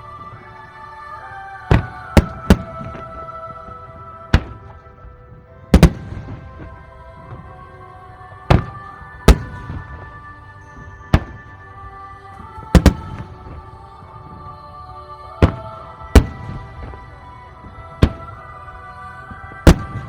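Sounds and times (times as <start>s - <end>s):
music with held notes: 0.0s - 20.0s
fireworks bursting: 1.6s - 20.0s.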